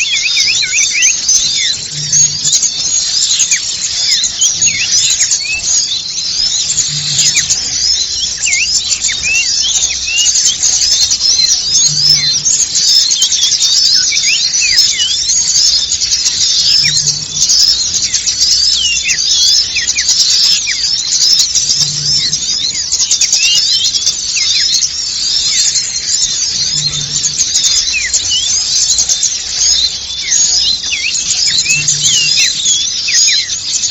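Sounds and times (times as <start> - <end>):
songbirds chirping and twittering: 0.0 - 33.9.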